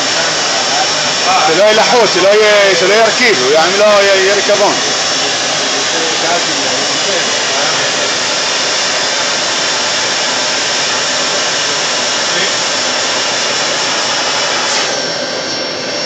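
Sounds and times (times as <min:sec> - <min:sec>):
suction unit rushing air: 0:00.0 - 0:16.0.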